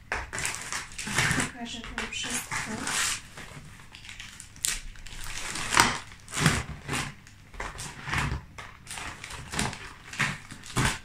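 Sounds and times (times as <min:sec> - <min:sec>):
plastic packaging crinkling: 0:00.1 - 0:11.0.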